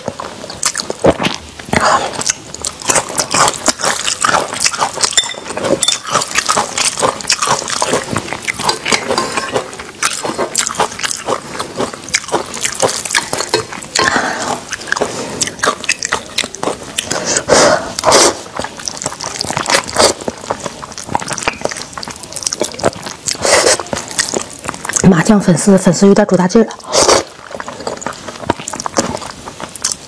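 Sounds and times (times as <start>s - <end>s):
wet slurping and chewing: 0.0s - 25.4s, 26.6s - 30.0s.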